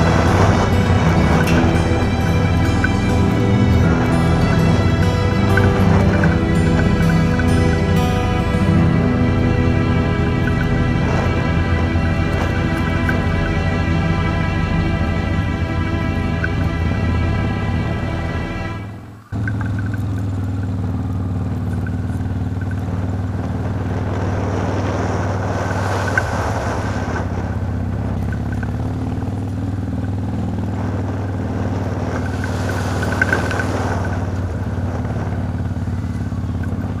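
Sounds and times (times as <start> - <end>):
motorcycle engine running: 0.0 - 37.0
rushing noise: 0.0 - 37.0.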